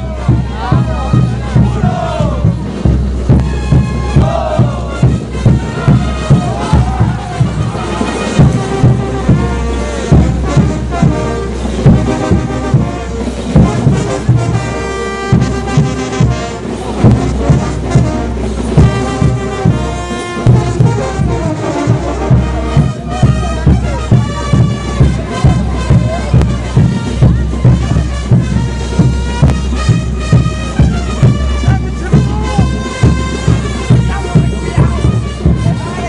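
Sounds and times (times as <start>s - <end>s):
bass drum beat: 0.0s - 36.0s
brass band playing: 0.0s - 36.0s.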